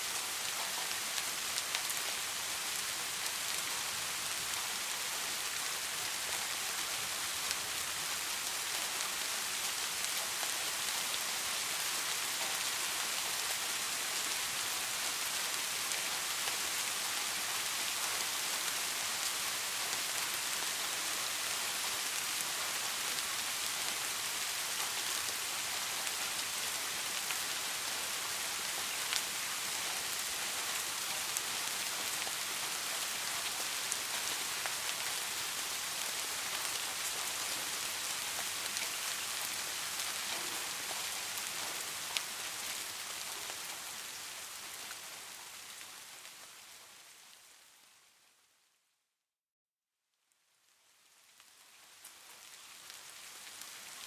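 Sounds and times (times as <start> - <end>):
steady rain falling: 0.0 - 48.7, 50.2 - 54.0.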